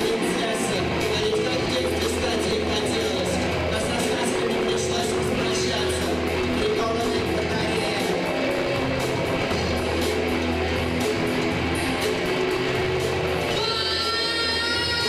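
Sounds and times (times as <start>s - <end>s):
electric guitar: 0.0s - 15.0s
live band music: 0.0s - 15.0s
low bass notes: 0.0s - 15.0s.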